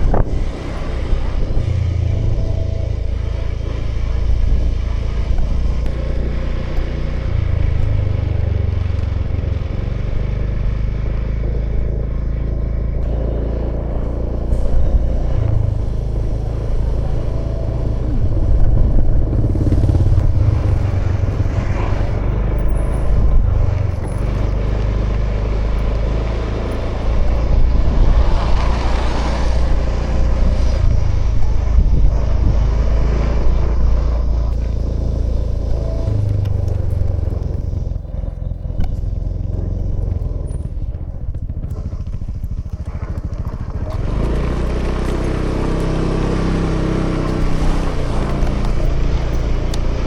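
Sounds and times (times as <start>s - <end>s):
scooter engine running: 0.0s - 50.0s.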